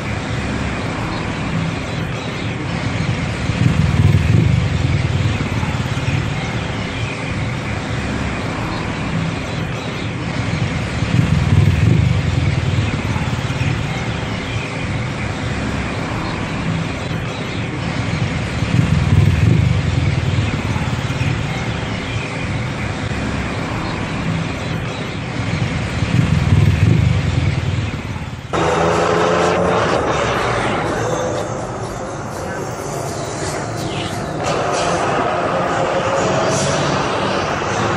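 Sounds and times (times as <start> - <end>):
motor rickshaw engine drone: 0.0 - 37.9
road noise: 0.0 - 37.9.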